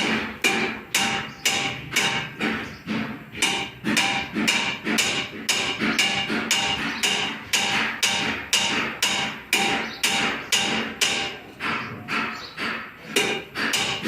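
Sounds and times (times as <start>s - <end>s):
hammer striking metal: 0.0s - 14.0s.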